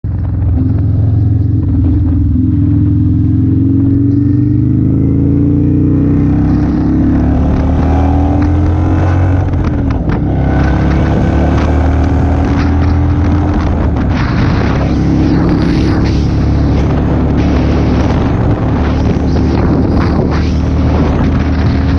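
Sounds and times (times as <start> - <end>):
motorcycle engine accelerating: 0.0 - 21.9.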